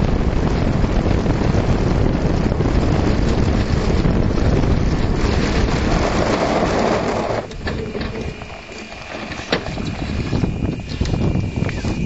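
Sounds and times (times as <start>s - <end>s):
tyres rumbling on dirt road: 0.0s - 12.0s
wheels crunching loose dirt: 0.0s - 12.0s
wind rushing over microphone: 0.0s - 12.0s.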